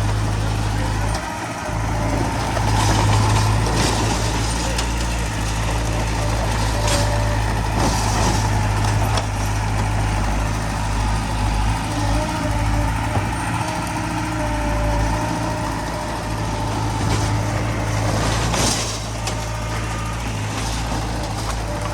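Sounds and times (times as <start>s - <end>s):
diesel machinery humming: 0.0s - 21.9s.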